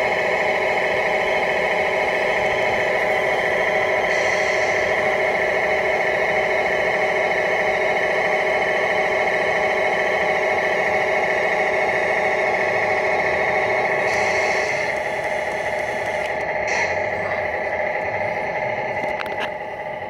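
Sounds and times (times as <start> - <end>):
hydraulic pump whining: 0.0 - 20.0.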